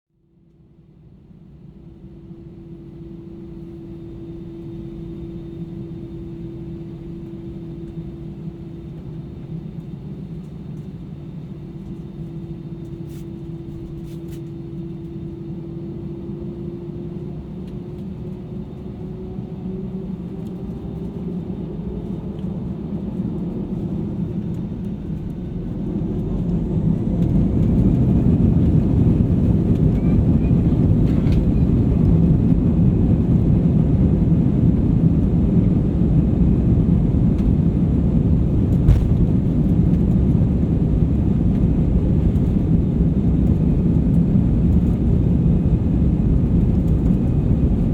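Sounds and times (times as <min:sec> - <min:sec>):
jet engines humming and rumbling: 0:00.8 - 0:47.9.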